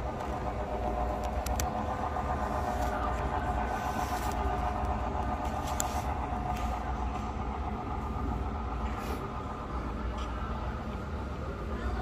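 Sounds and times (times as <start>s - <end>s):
model locomotive hum: 0.0s - 12.0s.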